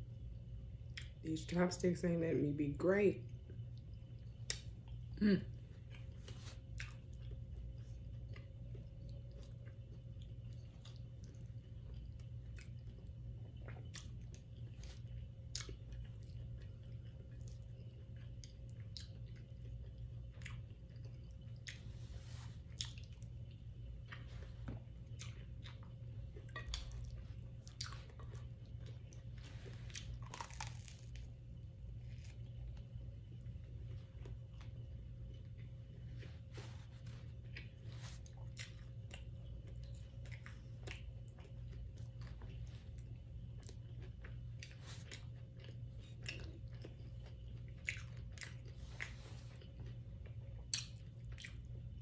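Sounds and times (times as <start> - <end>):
steady low hum: 0.0 - 52.0
person chewing food: 0.8 - 1.2, 3.3 - 52.0.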